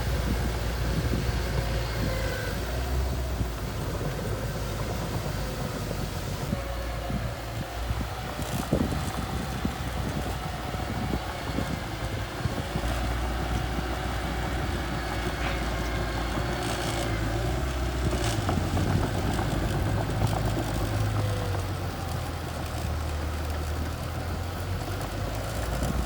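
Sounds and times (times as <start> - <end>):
bulldozer diesel engine under load: 0.0 - 26.0.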